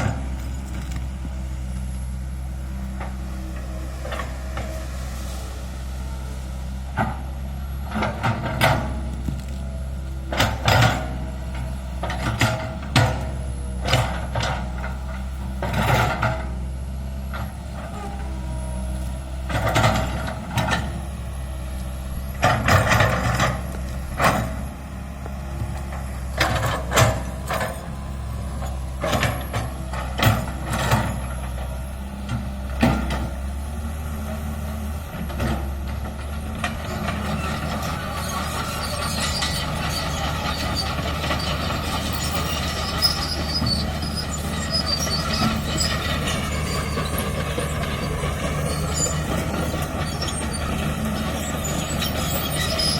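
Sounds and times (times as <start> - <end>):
excavator diesel engine: 0.0 - 52.9.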